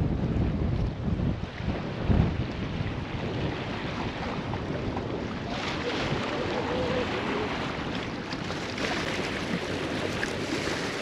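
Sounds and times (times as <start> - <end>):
water rushing past hull: 0.0 - 11.0
wind buffeting microphone: 0.0 - 11.0.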